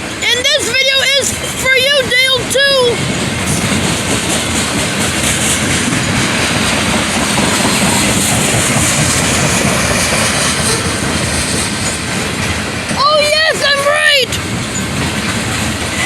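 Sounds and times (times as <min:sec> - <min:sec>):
train passing on rails: 0:00.0 - 0:16.0.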